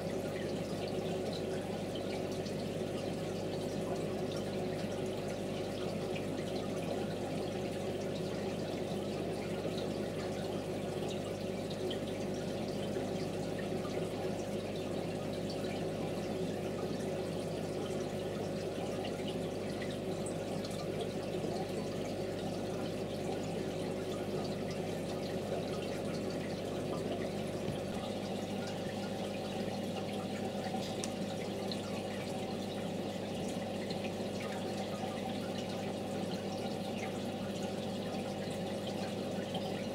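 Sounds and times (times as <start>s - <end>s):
electrical hum: 0.0s - 39.9s
water trickling and dripping: 0.0s - 39.9s.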